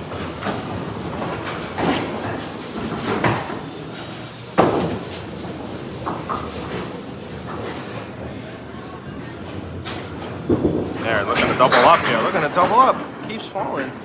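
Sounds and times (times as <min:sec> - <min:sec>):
bowling pins clattering: 0:00.0 - 0:08.1, 0:09.5 - 0:14.0
bowling balls rolling: 0:00.0 - 0:08.5, 0:09.1 - 0:14.0.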